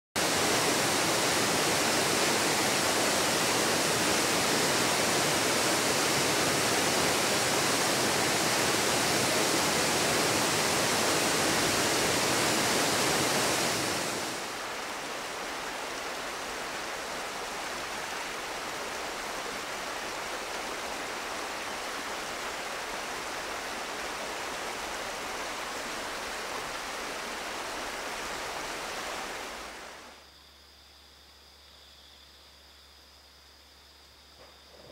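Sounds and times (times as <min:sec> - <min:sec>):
river rushing over rocks: 0:00.2 - 0:30.1.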